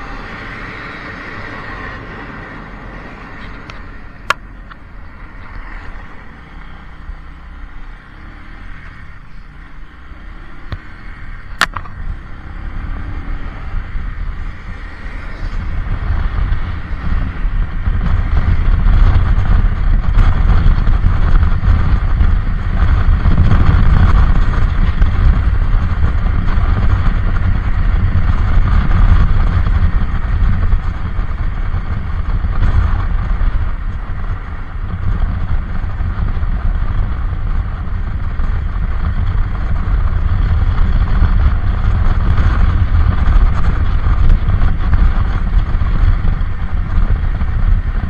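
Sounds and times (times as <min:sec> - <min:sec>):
vehicle travel rumble: 0:00.0 - 0:48.0
wind buffeting microphone: 0:00.0 - 0:48.0.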